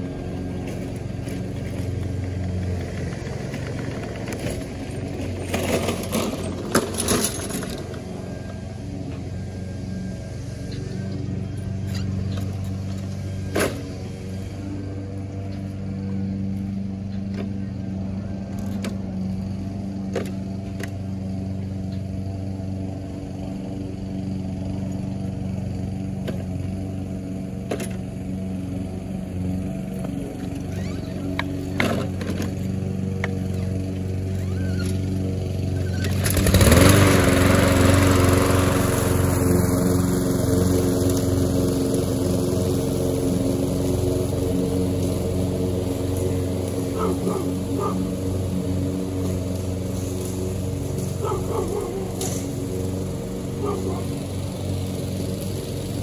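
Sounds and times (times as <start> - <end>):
lawn mower engine running: 0.0 - 56.0
rushing engine noise: 0.0 - 56.0.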